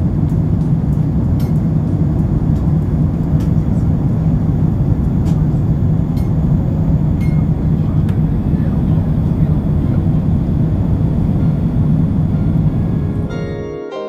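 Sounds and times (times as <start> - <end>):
airliner cabin engine rumble: 0.0 - 13.6
rushing airflow: 0.0 - 13.6.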